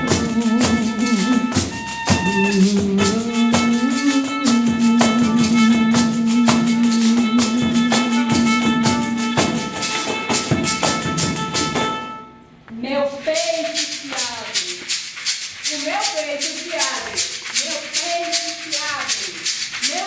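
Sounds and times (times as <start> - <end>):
frame drums with jingles: 0.0 - 12.1, 13.2 - 20.0.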